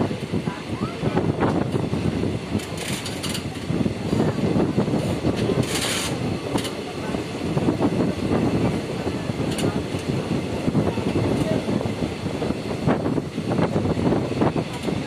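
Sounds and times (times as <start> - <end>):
train wheels rumbling and rattling: 0.0 - 15.0.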